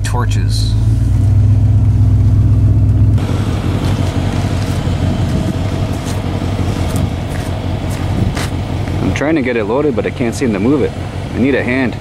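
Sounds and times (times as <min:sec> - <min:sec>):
truck engine droning: 0:00.0 - 0:12.0
truck engine idling: 0:00.0 - 0:12.0.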